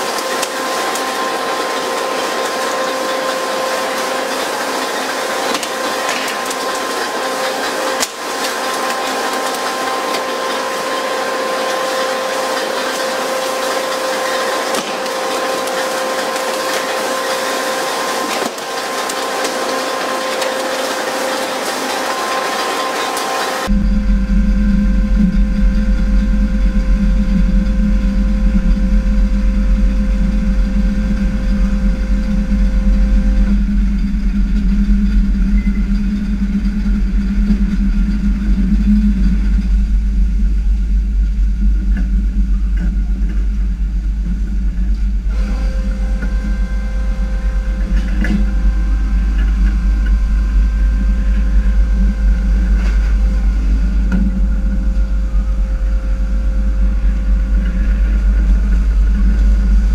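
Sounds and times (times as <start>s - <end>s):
boat engine deep rumble: 0.0s - 59.9s
high engine whine: 0.0s - 59.9s.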